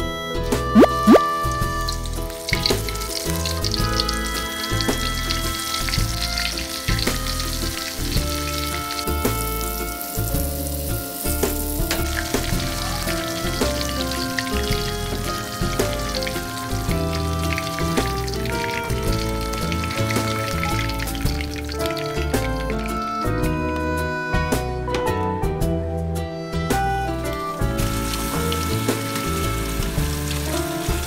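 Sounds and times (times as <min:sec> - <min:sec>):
background music: 0:00.0 - 0:31.0
mushrooms sizzling in hot oil: 0:01.2 - 0:23.3, 0:27.6 - 0:31.0.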